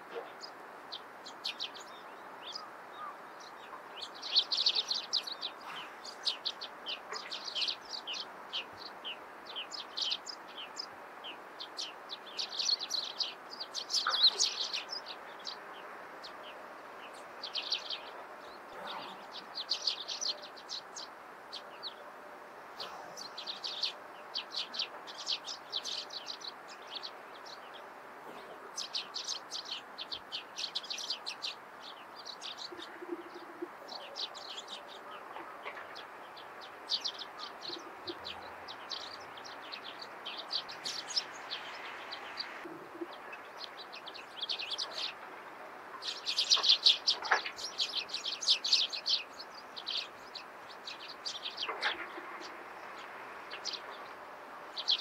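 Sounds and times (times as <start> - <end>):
background hiss: 0.0 - 55.0
small songbirds chirping: 0.0 - 55.0.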